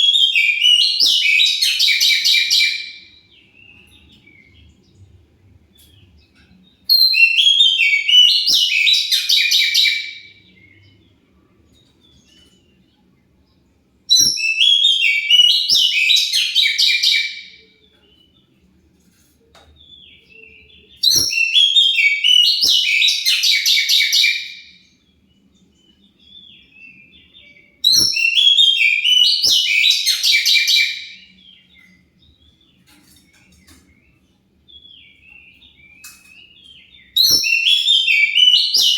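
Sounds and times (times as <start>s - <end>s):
magpie-robin singing: 0.0s - 4.7s, 6.0s - 11.1s, 14.0s - 18.4s, 19.8s - 38.9s.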